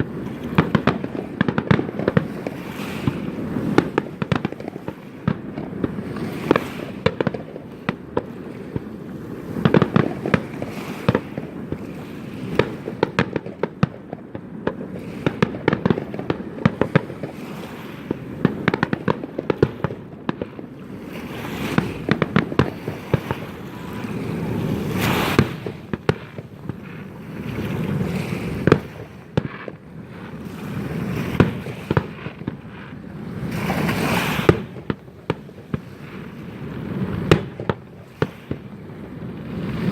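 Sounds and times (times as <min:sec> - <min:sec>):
fireworks banging and crackling: 0:00.0 - 0:39.9.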